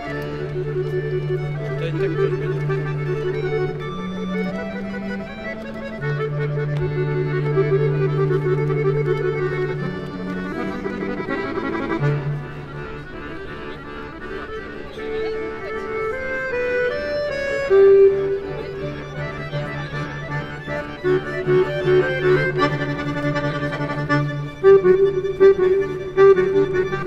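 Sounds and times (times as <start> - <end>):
accordion playing: 0.0 - 27.0.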